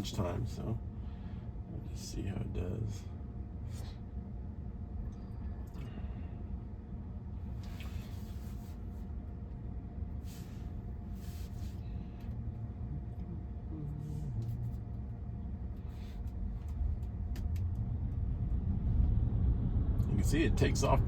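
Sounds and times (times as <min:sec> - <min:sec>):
car cabin rumble and hum: 0:00.0 - 0:21.0.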